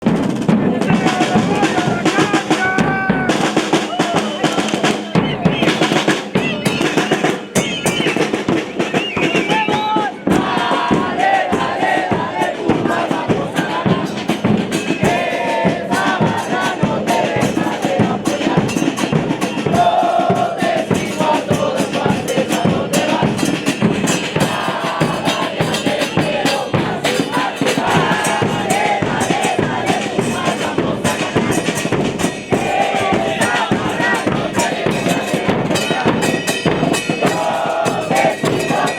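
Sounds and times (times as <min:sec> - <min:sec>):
crowd chanting and singing: 0:00.0 - 0:38.9
drums beating: 0:00.0 - 0:38.9.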